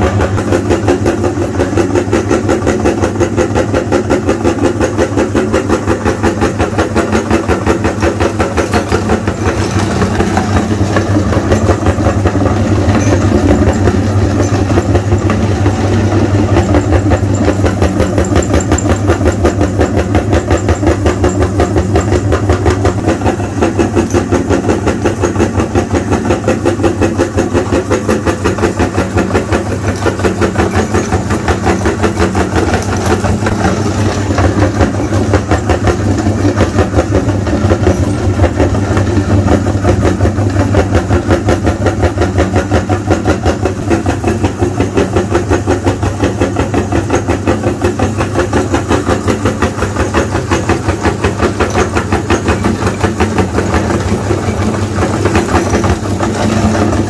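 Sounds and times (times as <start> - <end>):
electric meat grinder crushing chalk: 0.0 - 57.0.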